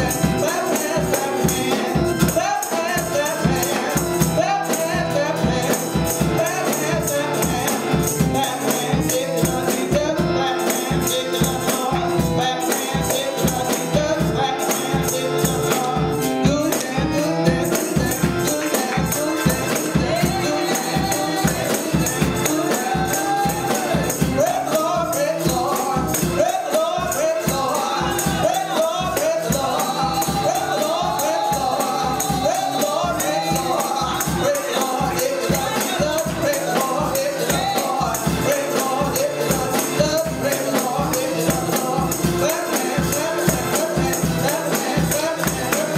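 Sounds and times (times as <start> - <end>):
quick beat with tambourine: 0.0 - 45.9
voices singing gospel music: 0.0 - 45.9.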